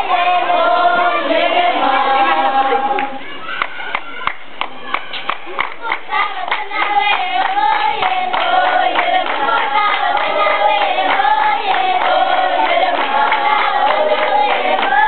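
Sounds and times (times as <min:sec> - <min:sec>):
children singing in unison: 0:00.0 - 0:03.3, 0:05.8 - 0:15.0
rhythmic hand-clapping: 0:00.0 - 0:15.0.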